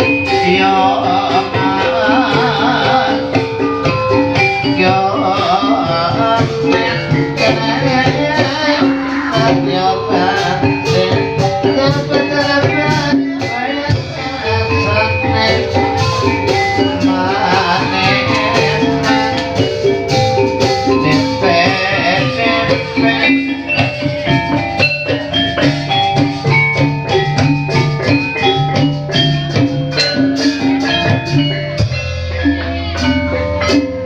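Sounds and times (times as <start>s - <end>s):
drumming: 0.0s - 34.0s
person singing: 0.0s - 34.0s
struck metallophone notes: 0.0s - 34.0s.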